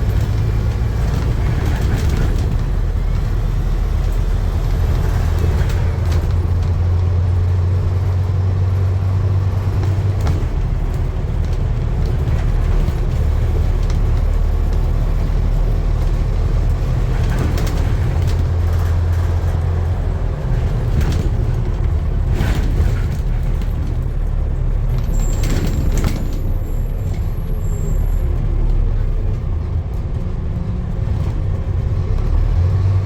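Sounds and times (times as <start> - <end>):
motor vehicle rumbling: 0.0 - 33.0.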